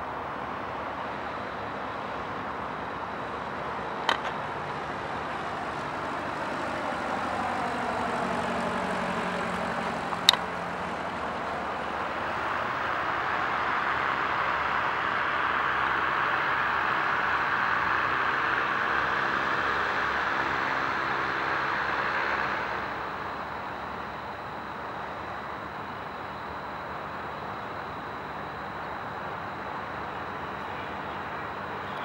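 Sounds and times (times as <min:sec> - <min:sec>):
small aircraft engine: 0:00.0 - 0:32.0.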